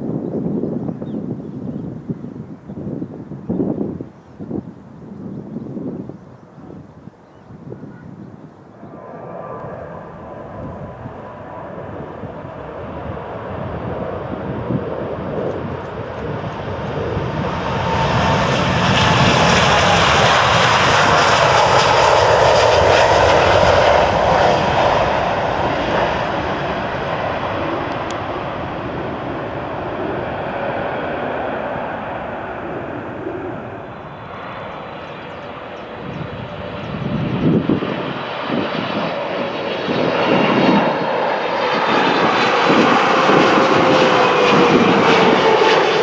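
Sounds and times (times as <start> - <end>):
jet airliner taking off: 7.6 - 46.0.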